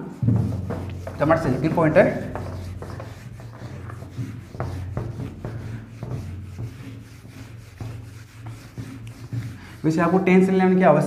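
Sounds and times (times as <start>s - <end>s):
duster rubbing on whiteboard: 0.0s - 10.8s.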